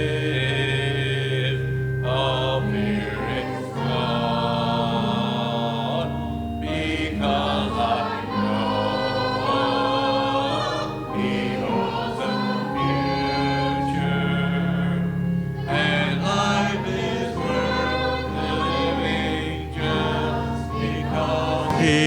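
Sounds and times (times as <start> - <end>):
congregation singing a hymn: 0.0 - 22.0
sustained instrumental accompaniment: 0.0 - 22.0.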